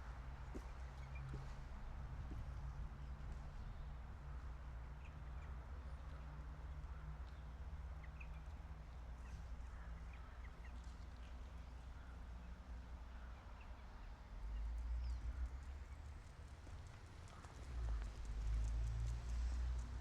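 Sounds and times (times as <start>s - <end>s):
distant traffic: 0.0s - 20.0s.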